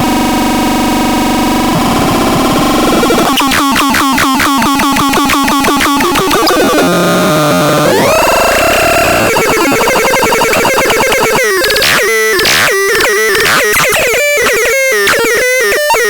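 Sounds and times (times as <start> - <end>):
harsh noisy synthesizer tones: 0.0 - 16.0.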